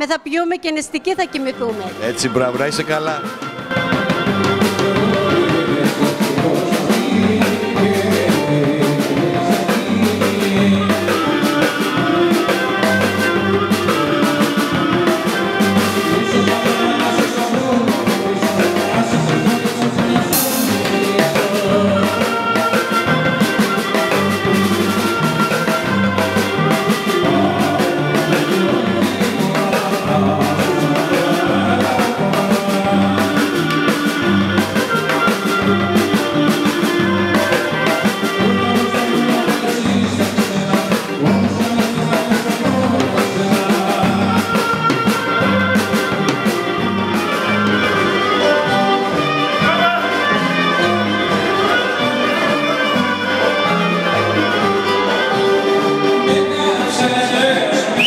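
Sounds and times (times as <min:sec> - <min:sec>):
folk dance music with clarinet: 0:00.7 - 0:58.0.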